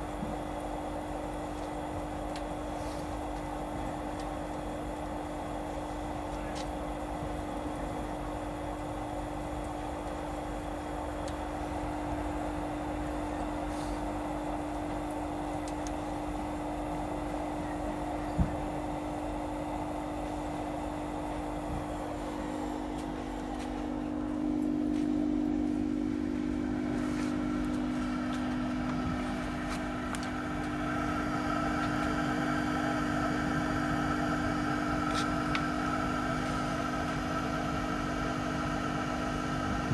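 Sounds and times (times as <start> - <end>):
heater fan and burner hum: 0.0 - 39.9
high steady whine: 0.0 - 39.9.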